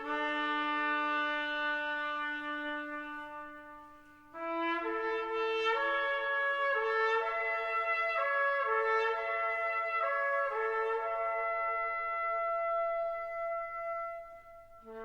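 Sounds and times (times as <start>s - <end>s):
trumpet melody: 0.0s - 15.0s.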